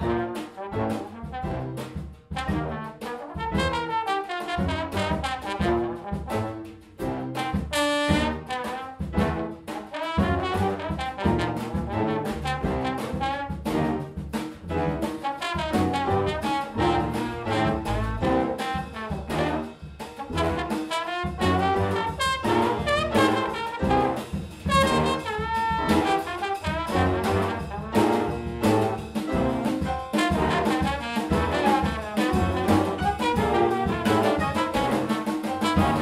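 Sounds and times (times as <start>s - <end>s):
bass: 0.0s - 36.0s
big band jazz: 0.0s - 36.0s
drums keeping a beat: 0.0s - 36.0s
trombone solo: 0.0s - 36.0s.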